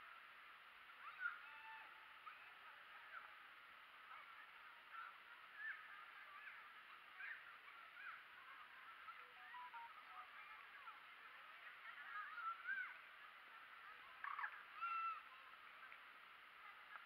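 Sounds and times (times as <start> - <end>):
faint bird chirps: 0.0 - 17.0
low steady hiss: 0.0 - 17.0.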